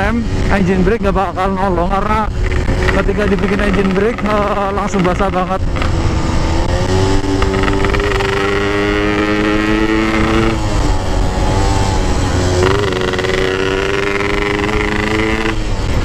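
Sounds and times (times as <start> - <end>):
wind buffeting microphone: 0.0 - 16.0
motorcycle engine revving: 1.2 - 16.0.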